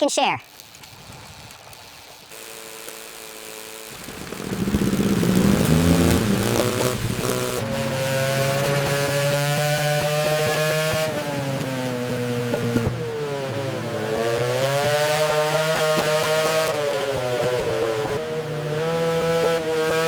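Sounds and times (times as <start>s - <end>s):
motorcycle engine revving: 2.3s - 20.0s.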